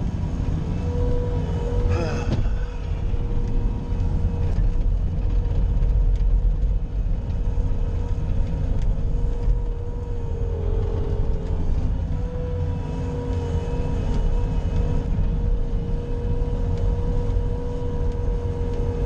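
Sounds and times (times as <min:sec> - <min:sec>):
loader engine rumble: 0:00.0 - 0:19.0.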